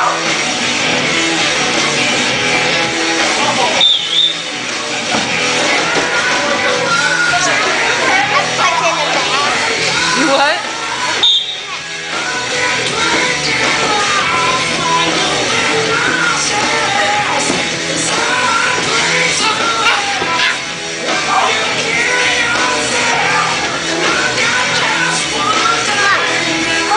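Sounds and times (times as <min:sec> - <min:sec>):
rock music with singing: 0:00.0 - 0:26.9.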